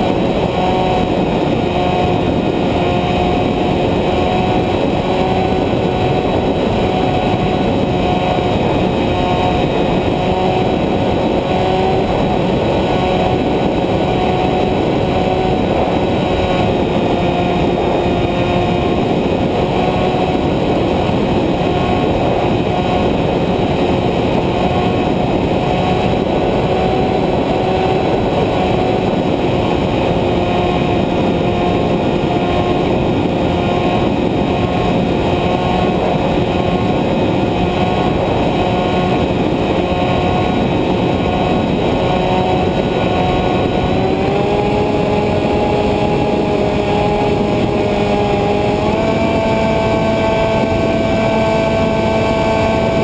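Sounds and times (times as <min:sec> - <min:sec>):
airflow rushing over microphone: 0:00.0 - 0:53.0
model airplane motor and propeller: 0:00.0 - 0:53.0.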